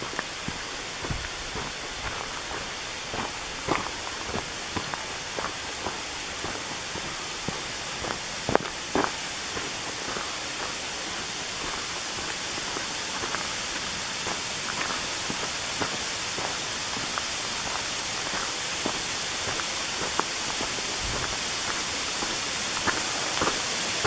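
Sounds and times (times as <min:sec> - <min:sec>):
footsteps crunching on gravel: 0:00.0 - 0:24.0
waterfall and creek rushing: 0:00.0 - 0:24.0.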